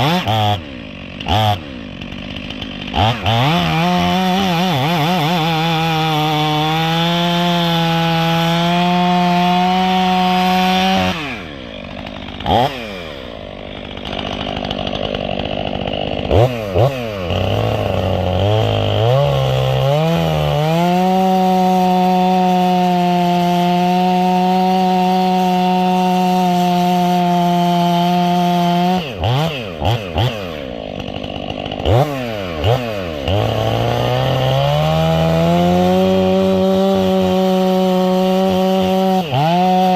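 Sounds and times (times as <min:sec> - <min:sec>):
chainsaw idling with throttle blips: 0:00.0 - 0:39.9
chainsaw running at high speed: 0:00.0 - 0:39.9.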